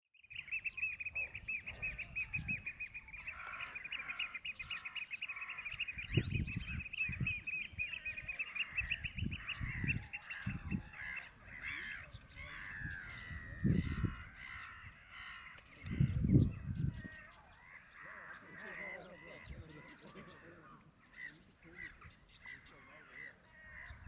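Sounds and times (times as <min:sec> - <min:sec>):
lower bird calls: 0:00.1 - 0:24.0
oystercatchers piping: 0:00.3 - 0:24.0.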